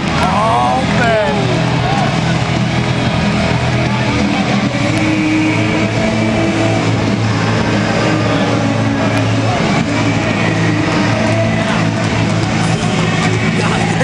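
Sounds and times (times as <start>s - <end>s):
crowd din: 0.0s - 14.0s
music over public-address system: 0.0s - 14.0s.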